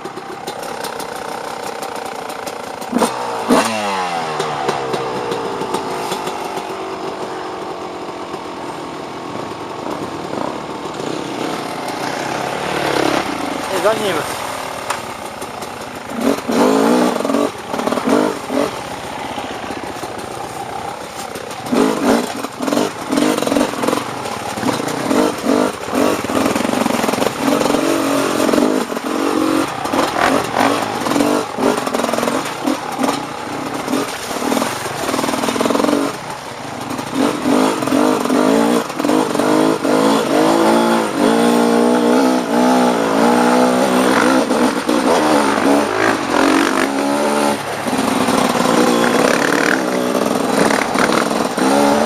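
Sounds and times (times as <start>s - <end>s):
dirt bike engine revving: 0.0s - 8.4s, 10.2s - 52.0s.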